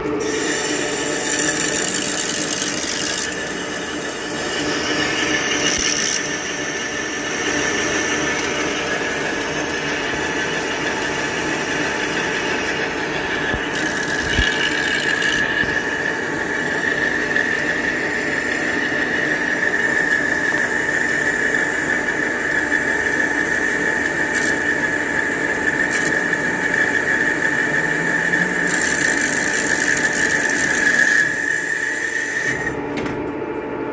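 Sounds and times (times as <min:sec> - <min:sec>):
lathe running hum: 0:00.0 - 0:33.9
high-pitched cutting squeal: 0:00.2 - 0:20.5, 0:23.8 - 0:32.7.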